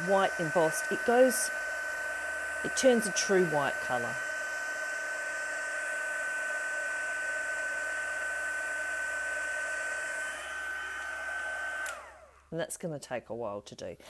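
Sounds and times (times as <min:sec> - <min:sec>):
heat gun whining and blowing: 0:00.0 - 0:12.6.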